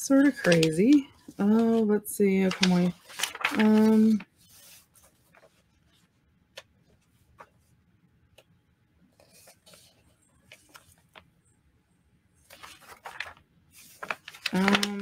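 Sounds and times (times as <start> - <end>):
pages turning rustle: 0.0 - 7.8, 9.1 - 11.4, 12.4 - 15.0.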